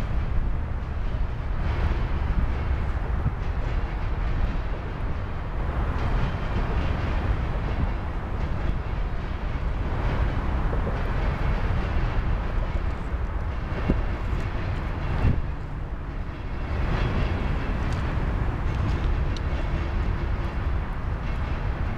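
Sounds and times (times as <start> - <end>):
steel wheels rumbling on rail: 0.0 - 21.9.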